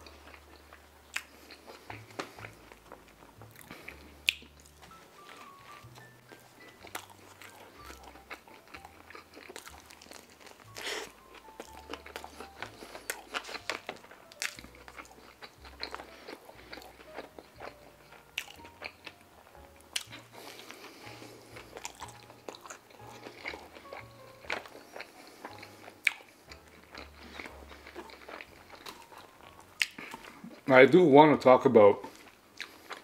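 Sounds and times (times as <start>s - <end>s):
crunchy biting: 0.0s - 30.6s
wet chewing: 0.0s - 30.7s, 32.0s - 33.0s.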